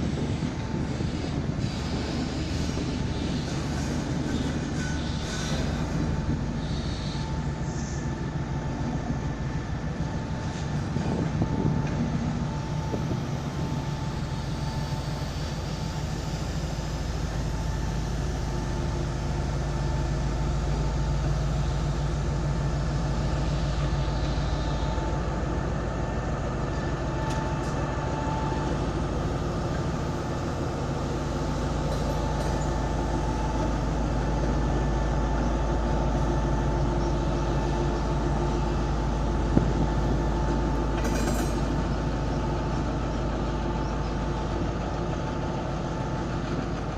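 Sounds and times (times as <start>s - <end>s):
diesel locomotive engine running: 0.0s - 46.9s.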